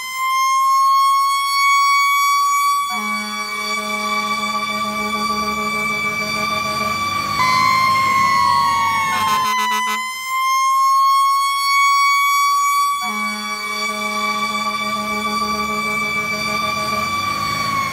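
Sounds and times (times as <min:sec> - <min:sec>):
fire truck siren wailing: 0:00.0 - 0:17.9.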